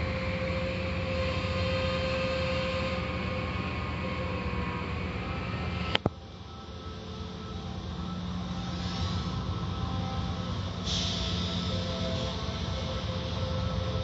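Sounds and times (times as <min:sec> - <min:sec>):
car wash machinery hum: 0:00.0 - 0:14.0
thin steady whine: 0:00.0 - 0:14.0.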